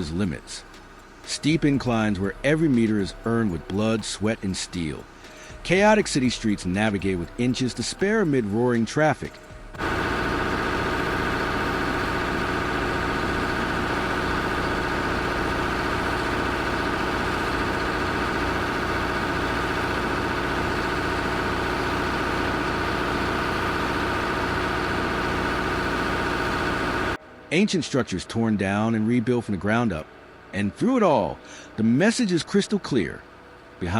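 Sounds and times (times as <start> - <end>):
engine running steadily: 0.0 - 27.2.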